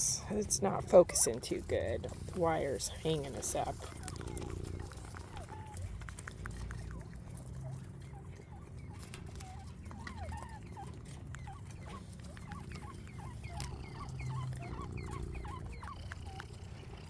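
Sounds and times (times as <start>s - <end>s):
quail chirping: 0.0s - 17.0s.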